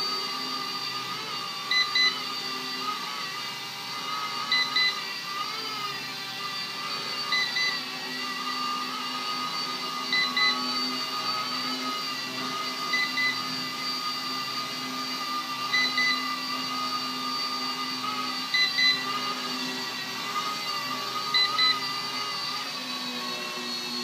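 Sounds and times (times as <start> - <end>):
toy helicopter motor whine: 0.0 - 24.0.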